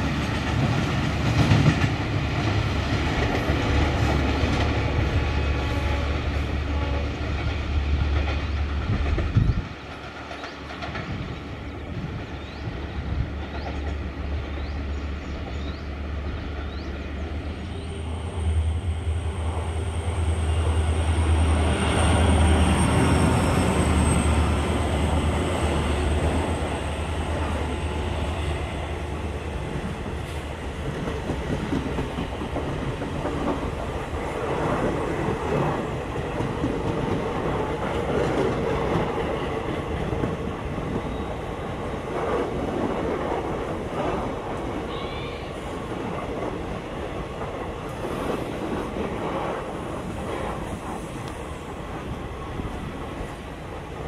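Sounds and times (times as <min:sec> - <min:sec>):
electric locomotive humming: 0:00.0 - 0:54.0.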